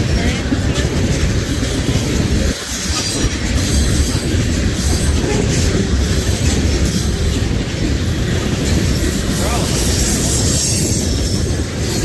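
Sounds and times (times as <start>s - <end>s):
freight train wheels rumbling: 0.0s - 12.0s
wheels clattering over rail joints: 0.0s - 12.0s.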